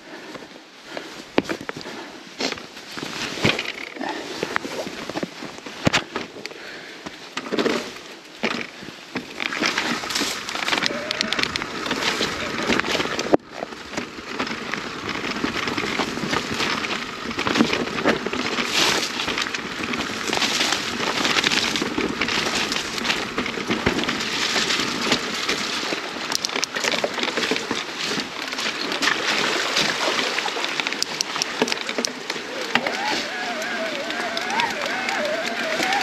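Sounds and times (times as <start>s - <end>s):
bike tyres on dirt and twigs: 0.0s - 36.0s
bike clicks and rattles: 0.2s - 36.0s.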